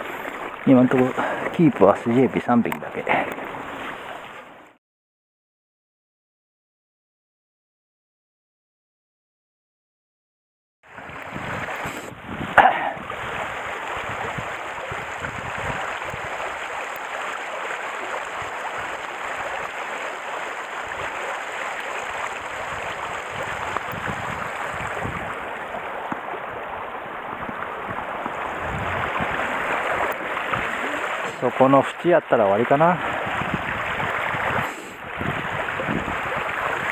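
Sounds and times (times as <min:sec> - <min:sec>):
stream rushing over stones: 0:00.0 - 0:04.8, 0:10.9 - 0:36.9.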